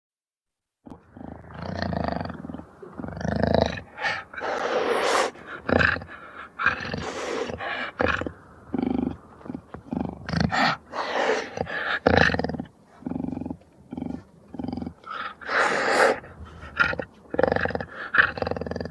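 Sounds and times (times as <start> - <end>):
jaguar roaring: 0.9 - 18.9.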